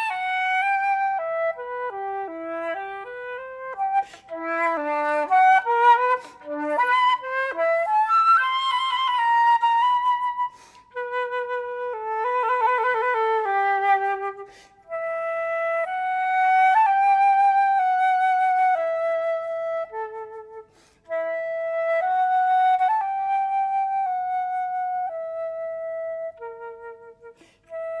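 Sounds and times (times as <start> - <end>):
solo flute melody: 0.0 - 28.0.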